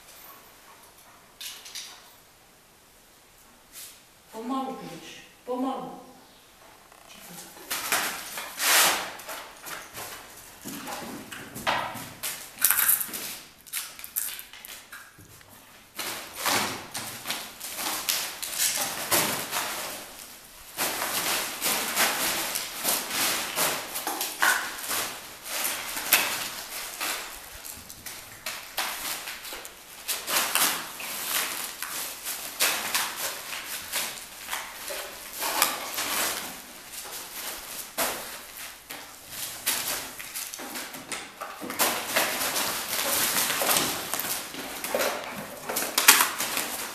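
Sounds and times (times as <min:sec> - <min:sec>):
plastic sheeting crinkling: 0:06.9 - 0:11.4, 0:12.0 - 0:46.9.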